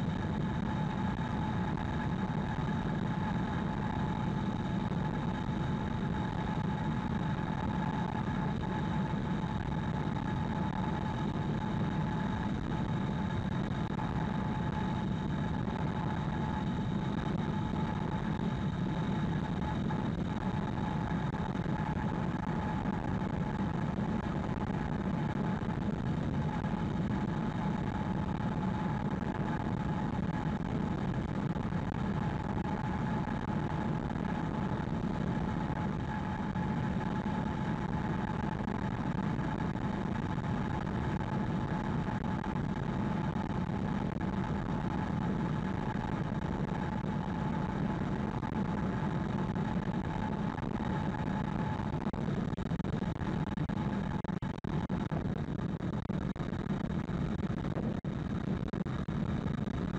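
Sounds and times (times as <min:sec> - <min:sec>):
faint steady whine: 0:00.0 - 0:59.9.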